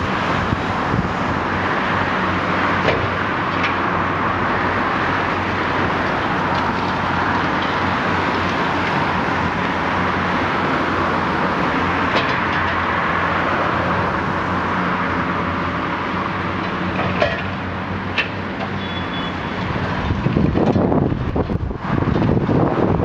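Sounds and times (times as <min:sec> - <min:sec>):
diesel excavator engine running: 0:00.0 - 0:23.0.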